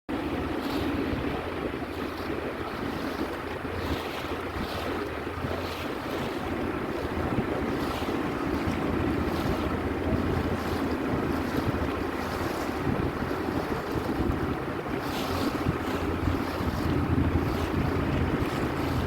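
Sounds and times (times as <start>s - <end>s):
sea washing: 0.1s - 19.0s
wind buffeting microphone: 0.1s - 19.0s.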